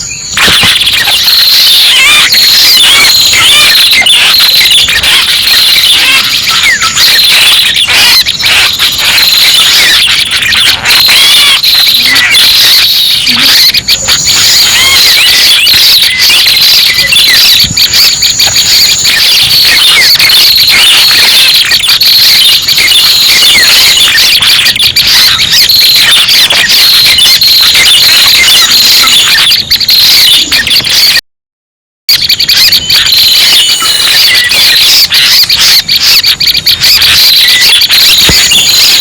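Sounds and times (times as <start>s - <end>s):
bird chirps and twitters: 0.0s - 31.2s, 32.2s - 39.0s.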